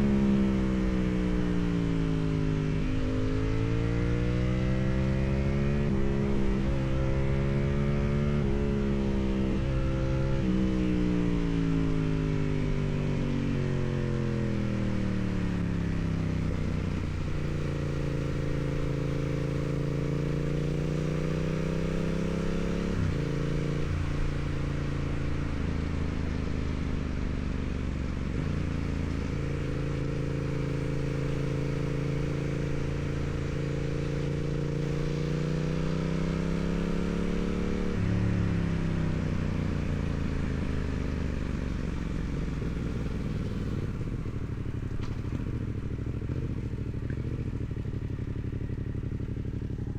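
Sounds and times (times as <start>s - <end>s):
motorcycle engine while riding: 0.0s - 49.9s.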